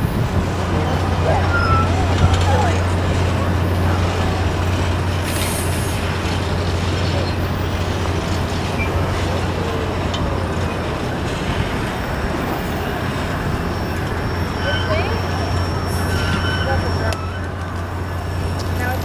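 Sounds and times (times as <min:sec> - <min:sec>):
train cars rumbling past: 0:00.0 - 0:19.0.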